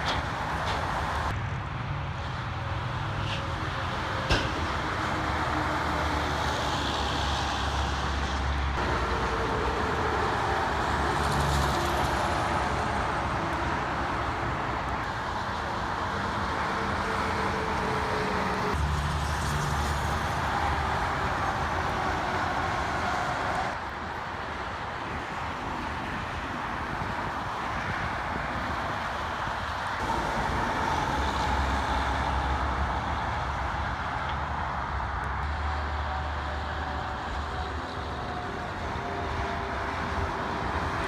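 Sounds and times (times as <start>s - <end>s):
diesel trucks passing: 0.0s - 41.0s
tyre and road noise: 0.0s - 41.0s.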